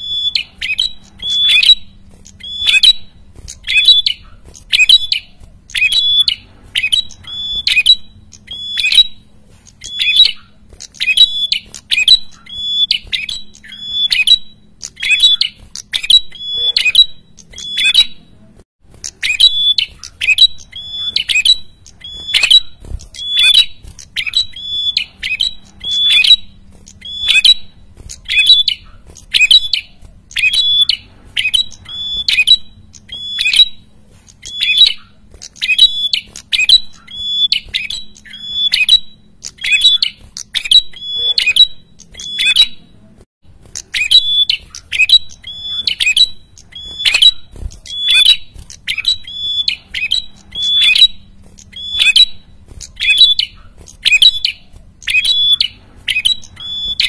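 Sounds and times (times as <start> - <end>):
bird calling harsh notes: 0.0 - 57.0.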